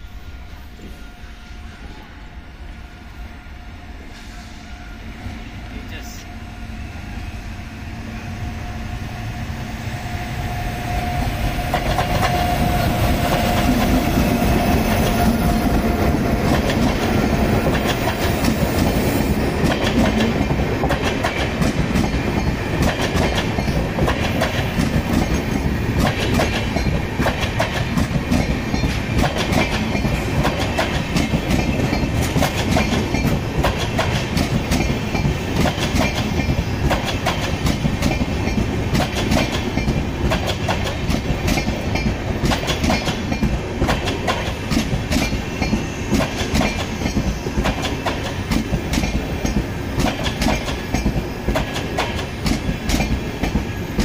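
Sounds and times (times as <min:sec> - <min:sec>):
passenger train passing: 0:00.0 - 0:54.0.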